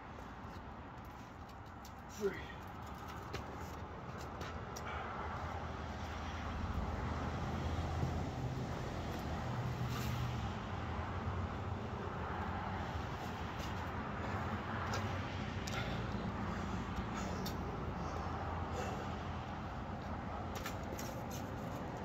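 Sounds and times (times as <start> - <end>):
passing vehicle engine rumble: 2.8 - 22.0.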